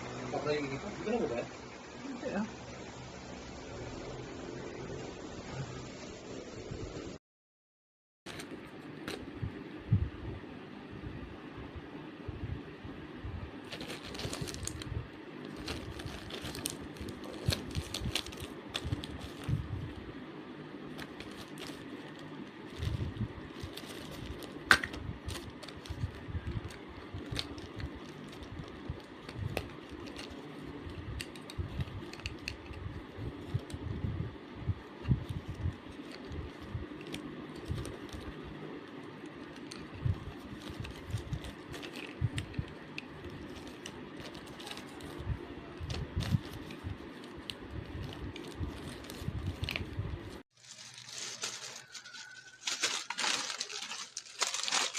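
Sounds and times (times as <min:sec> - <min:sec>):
steady low hum: 0:00.0 - 0:07.2, 0:08.3 - 0:51.6.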